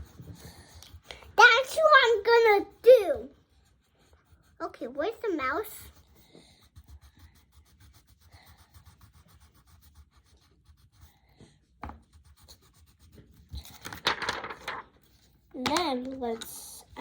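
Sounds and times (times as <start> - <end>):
pencil scratching on paper: 0.0 - 14.0.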